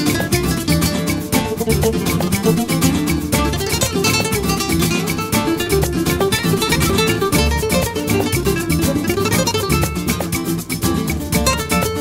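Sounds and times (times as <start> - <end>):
fast latin acoustic guitar: 0.0 - 12.0.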